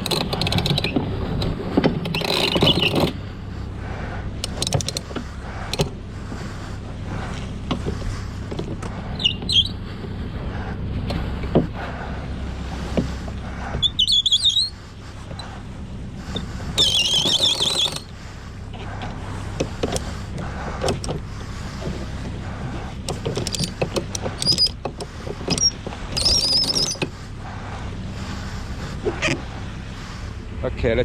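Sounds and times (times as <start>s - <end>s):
boat engine humming: 0.0s - 31.0s
halyard gear squeaking: 0.0s - 31.0s.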